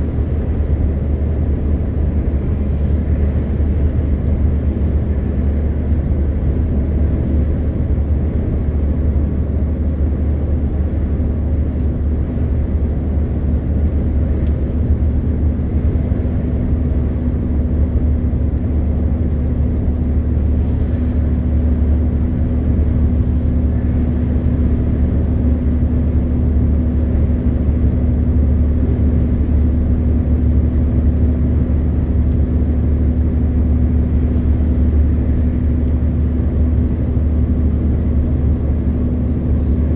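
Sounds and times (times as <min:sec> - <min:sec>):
road noise: 0:00.0 - 0:39.9
truck engine and tyres droning: 0:00.0 - 0:39.9.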